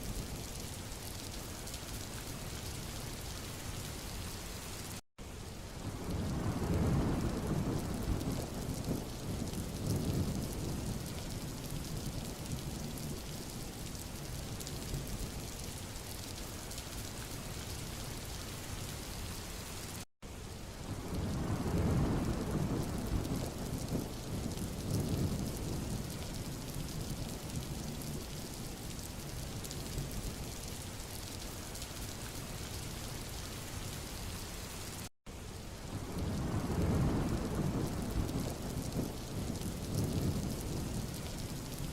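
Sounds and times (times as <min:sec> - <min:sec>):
rain falling on a road: 0:00.0 - 0:41.9.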